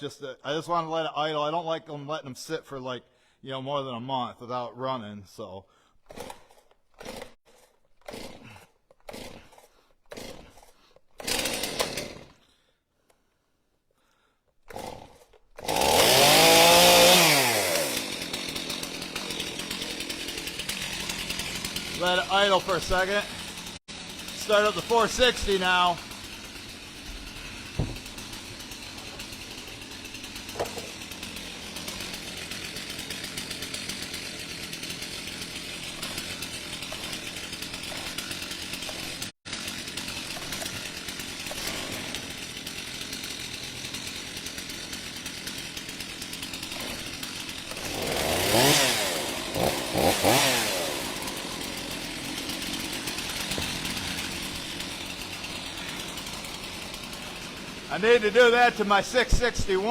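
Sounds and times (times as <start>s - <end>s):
chainsaws idling: 5.7s - 12.7s, 14.0s - 59.9s
chainsaw revving: 6.0s - 12.5s, 14.1s - 59.9s.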